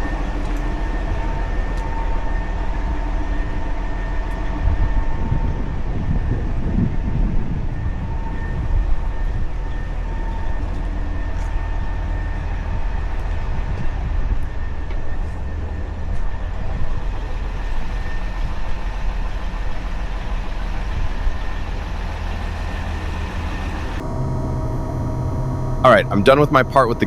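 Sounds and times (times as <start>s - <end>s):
diesel engine humming: 0.0s - 27.0s
faint steady whine: 0.0s - 27.0s.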